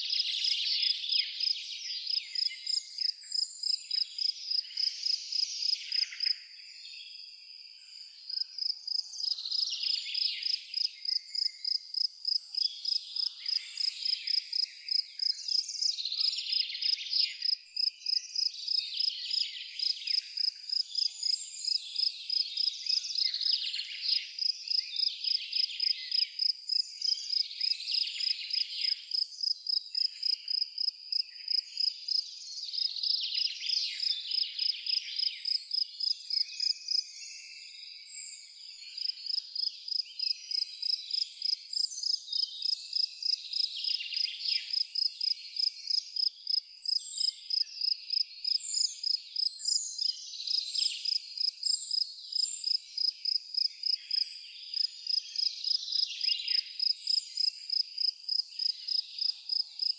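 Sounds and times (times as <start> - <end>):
chorus of insects: 0.0 - 59.9
cricket chirping: 0.0 - 59.9.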